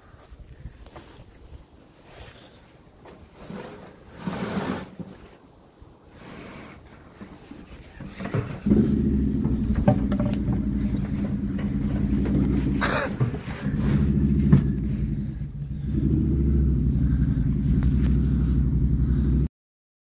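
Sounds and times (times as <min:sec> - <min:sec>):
engine rumbling: 0:00.0 - 0:19.5.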